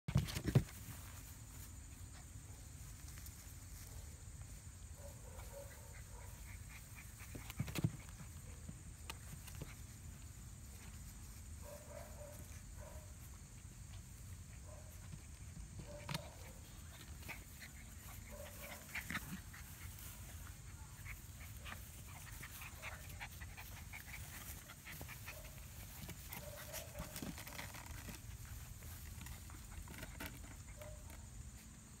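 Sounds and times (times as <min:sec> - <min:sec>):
small rustles and knocks: 0:00.1 - 0:04.6, 0:06.2 - 0:31.8.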